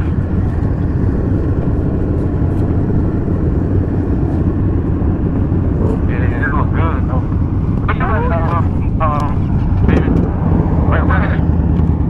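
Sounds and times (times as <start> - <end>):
motorcycle engine rumble: 0.0 - 12.0
wind noise: 0.0 - 12.0.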